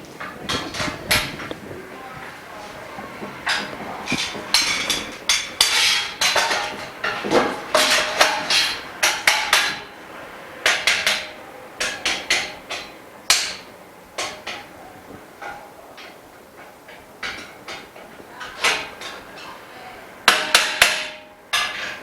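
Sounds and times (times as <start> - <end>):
metal frame bars knocking: 0.0 - 22.0.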